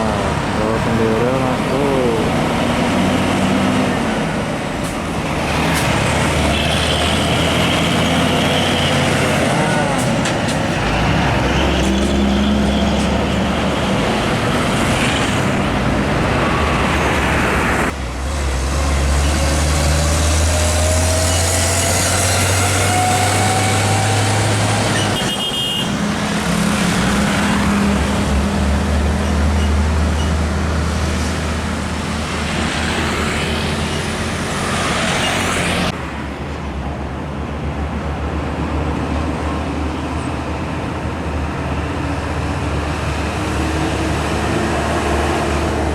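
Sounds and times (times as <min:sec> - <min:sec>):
diesel trucks passing: 0:00.0 - 0:45.9.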